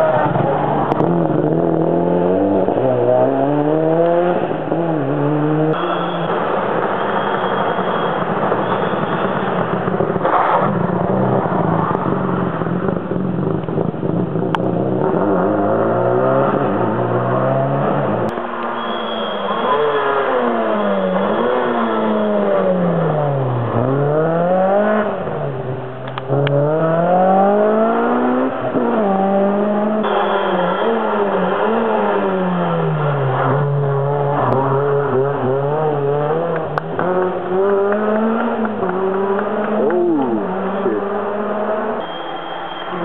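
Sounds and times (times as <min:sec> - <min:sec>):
racing car engine revving: 0:00.0 - 0:43.0.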